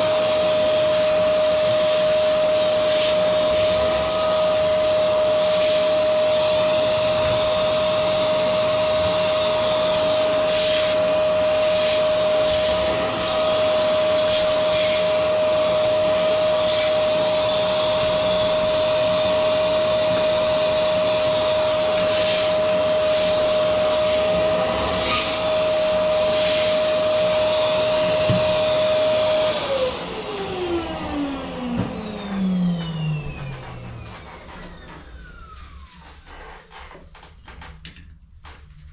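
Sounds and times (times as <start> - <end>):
vacuum cleaner motor whining: 0.0 - 37.6.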